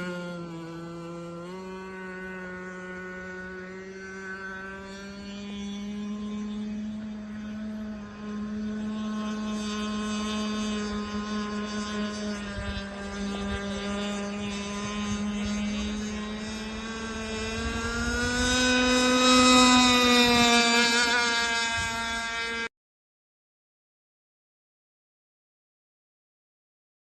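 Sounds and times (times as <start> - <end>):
radio-controlled boat motor: 0.0 - 22.7.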